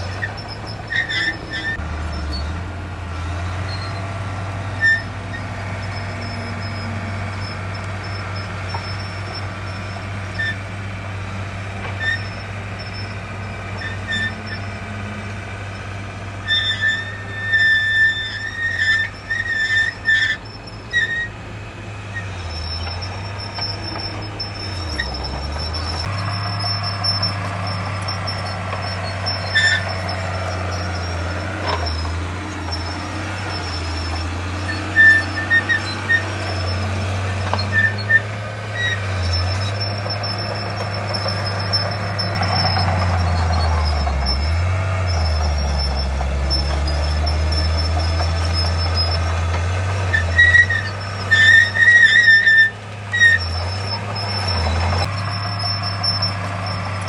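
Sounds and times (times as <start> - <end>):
high squeaks: 0.0 - 2.6, 3.2 - 4.2, 4.8 - 10.6, 11.8 - 15.0, 15.6 - 21.4, 22.1 - 57.0
diesel machinery engine running: 0.0 - 57.0.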